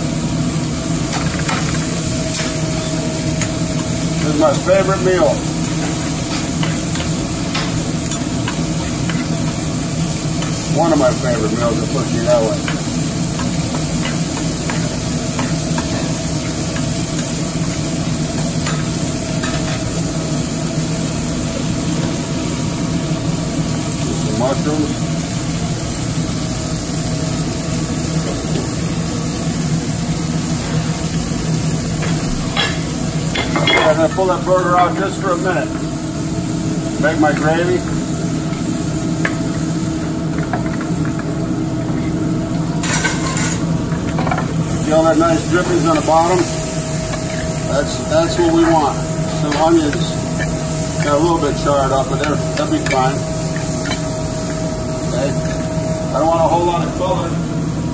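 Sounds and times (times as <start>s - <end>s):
onions and meat sizzling in pan: 0.0s - 57.9s
steady low hum: 0.0s - 57.9s.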